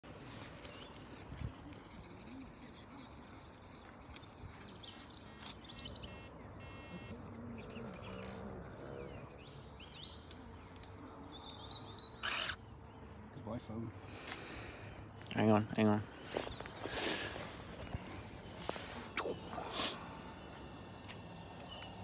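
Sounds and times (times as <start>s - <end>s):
faint bird chirps: 0.1s - 22.0s.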